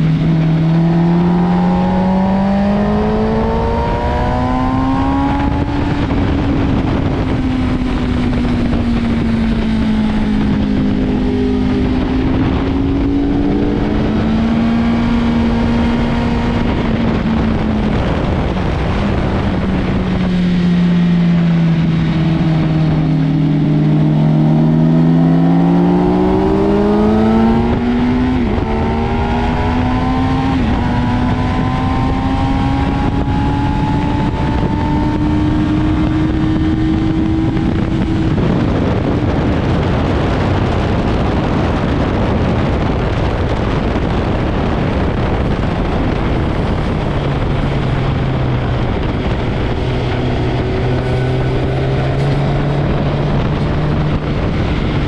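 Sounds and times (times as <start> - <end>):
loud rushing noise: 0.0 - 55.0
motorcycle engine accelerating: 0.0 - 55.0.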